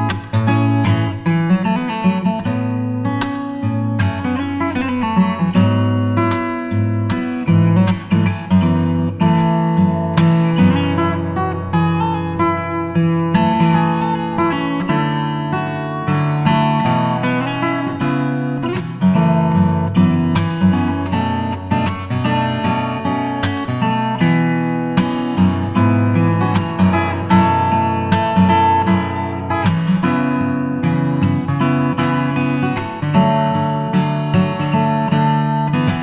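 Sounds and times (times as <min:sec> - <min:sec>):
acoustic guitar picked and strummed: 0:00.0 - 0:36.0.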